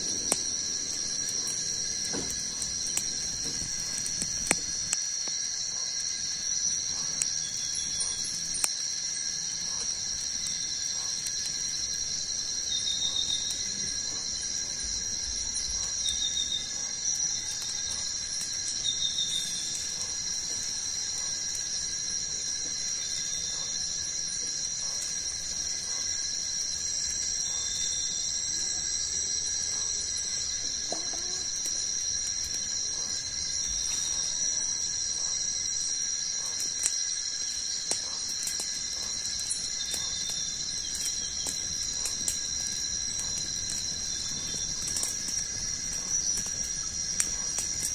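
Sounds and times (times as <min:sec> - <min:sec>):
campfire crackles: 0:00.0 - 0:47.9
insect chirps: 0:00.0 - 0:47.9
insects droning: 0:00.0 - 0:47.9.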